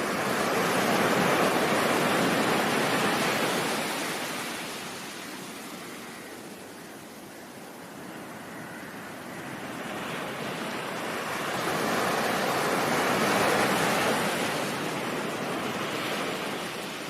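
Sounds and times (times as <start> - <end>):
ocean surf wave: 0.0 - 17.0.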